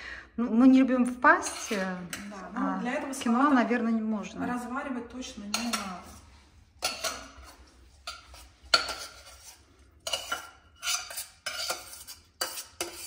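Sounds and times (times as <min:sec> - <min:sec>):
metal spoon scraping saucepan: 0:01.2 - 0:03.6, 0:04.2 - 0:13.0.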